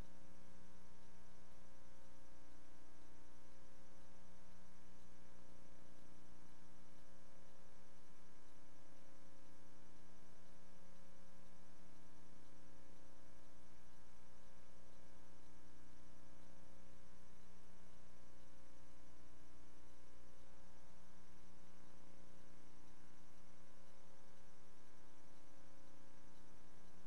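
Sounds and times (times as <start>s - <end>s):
electrical mains hum: 0.0s - 27.0s
faint hiss: 0.0s - 27.0s.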